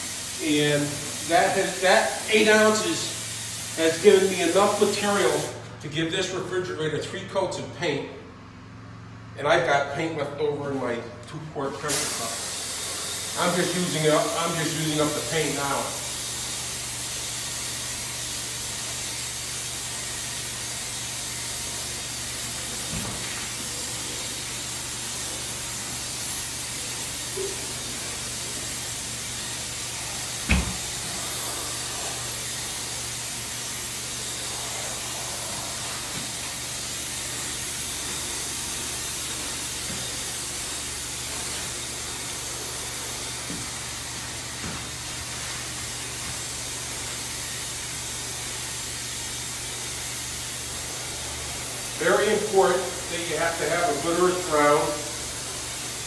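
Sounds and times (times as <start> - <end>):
air spray gun hissing: 0.0 - 5.8, 11.8 - 56.0.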